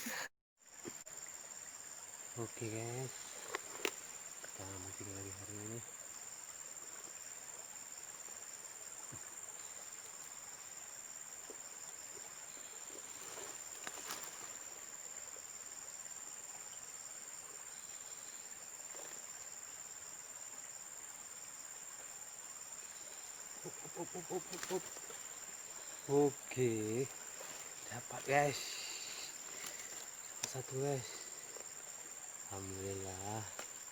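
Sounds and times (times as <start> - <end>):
insects chorus: 0.0 - 33.9.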